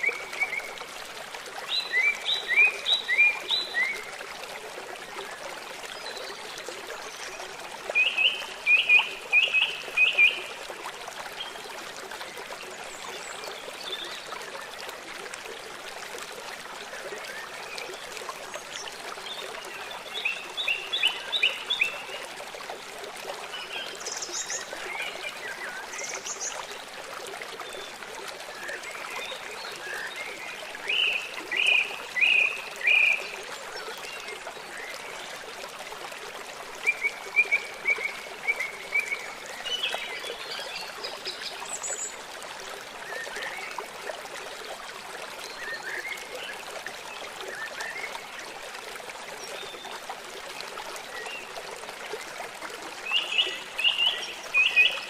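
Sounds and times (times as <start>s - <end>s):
river running: 0.0s - 55.0s.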